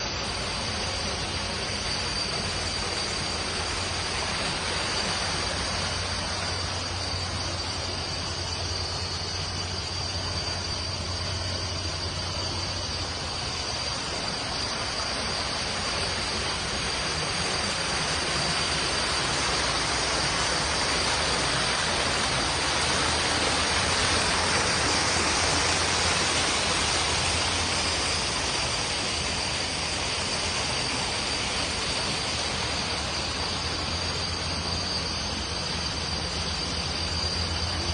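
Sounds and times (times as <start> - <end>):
steady outdoor rushing noise: 0.0 - 37.9
thin high whine: 0.0 - 37.9.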